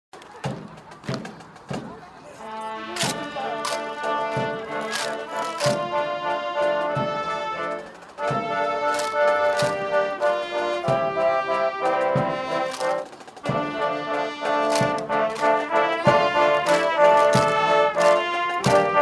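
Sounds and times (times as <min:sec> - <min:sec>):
brass music over steady beat: 0:02.3 - 0:19.0.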